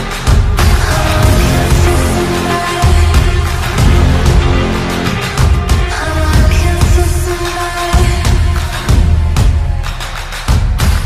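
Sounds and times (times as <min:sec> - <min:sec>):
pop song with heavy beat: 0:00.0 - 0:11.0.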